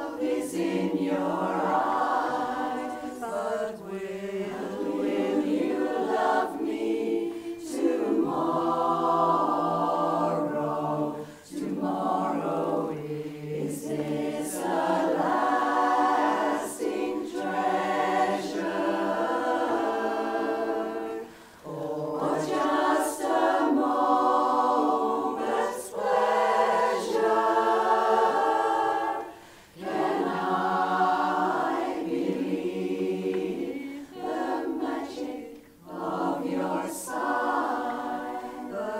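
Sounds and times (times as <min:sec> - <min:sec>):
women's chorus singing a cappella: 0:00.0 - 0:38.9.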